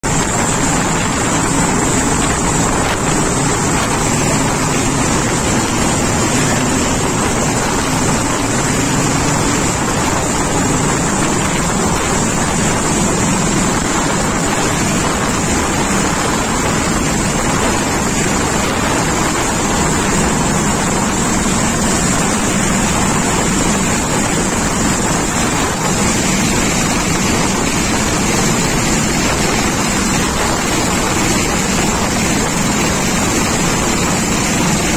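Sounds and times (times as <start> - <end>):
helicopter rotor and turbine noise: 0.0 - 34.9
high turbine whine: 0.0 - 34.9
wind buffeting microphone: 0.0 - 34.9.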